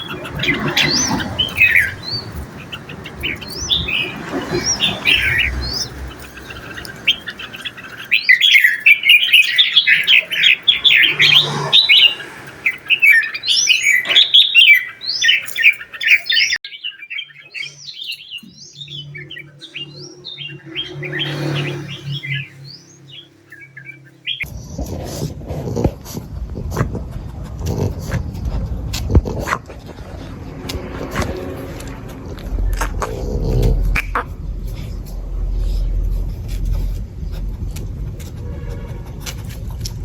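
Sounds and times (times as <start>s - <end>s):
bird chirping and twittering: 0.0s - 25.0s, 27.7s - 40.0s.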